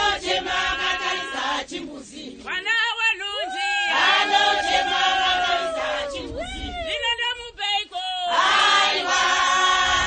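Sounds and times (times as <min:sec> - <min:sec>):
group singing and chanting: 0:00.0 - 0:10.0.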